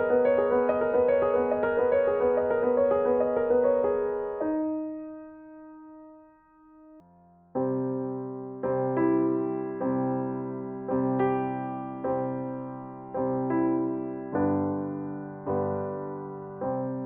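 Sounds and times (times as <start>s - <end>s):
piano keyboard music: 0.0s - 17.0s.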